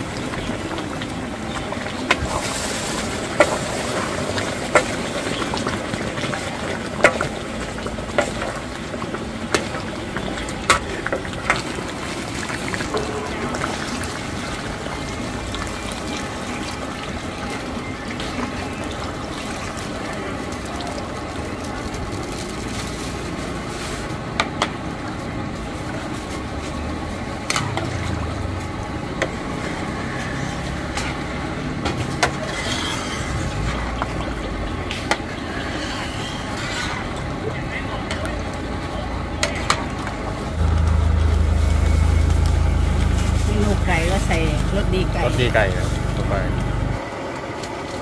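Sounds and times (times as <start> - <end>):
steady background noise: 0.0 - 48.0.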